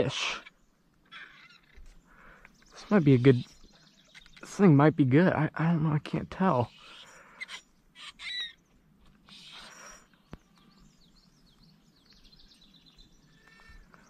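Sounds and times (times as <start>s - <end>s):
birds chirping: 0.0s - 14.0s
faint outdoor noise: 0.0s - 14.0s.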